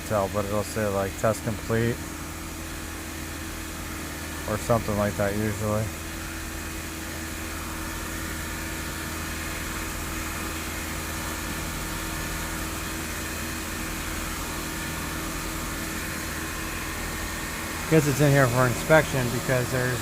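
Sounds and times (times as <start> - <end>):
car engine running steadily: 0.0 - 20.0.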